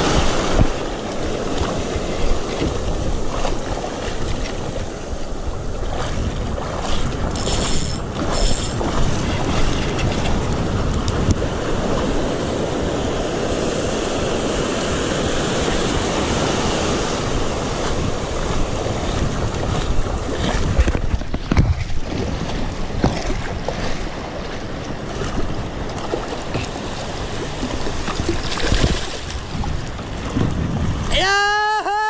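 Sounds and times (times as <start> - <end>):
wind buffeting microphone: 0.0 - 31.4
surf rushing: 0.0 - 32.0.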